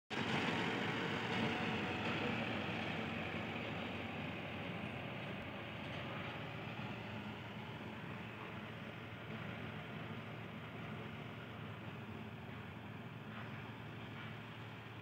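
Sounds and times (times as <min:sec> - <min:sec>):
tractor engine humming: 0:00.1 - 0:15.0.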